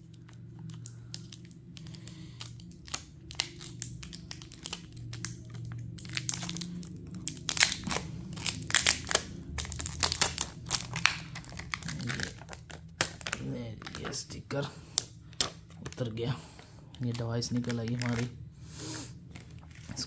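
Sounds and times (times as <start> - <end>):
plastic film peeling and crinkling: 0.0 - 18.4, 19.3 - 20.0
steady low hum: 0.0 - 20.0.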